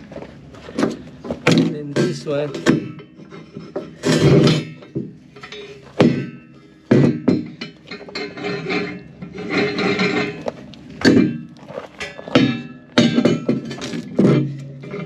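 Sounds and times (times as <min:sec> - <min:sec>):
metal and wood knocking: 0:00.8 - 0:15.0.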